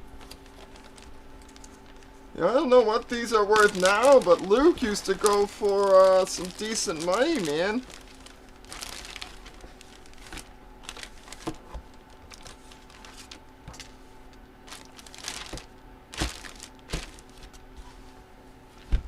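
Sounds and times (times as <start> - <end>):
packaging crinkling and rustling: 0.0 - 17.7.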